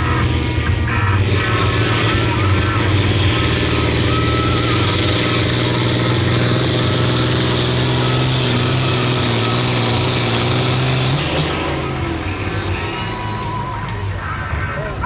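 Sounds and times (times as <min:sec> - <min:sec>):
diesel tractor engine under load: 0:00.0 - 0:15.0.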